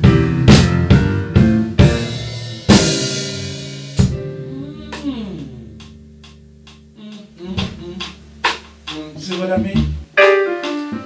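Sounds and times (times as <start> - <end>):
drum kit hit ringing: 0.0 - 11.0.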